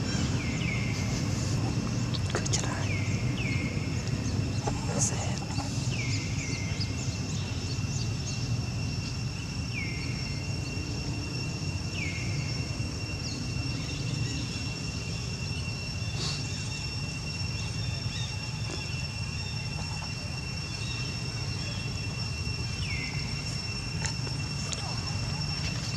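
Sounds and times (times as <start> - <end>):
high insect drone: 0.0 - 25.9.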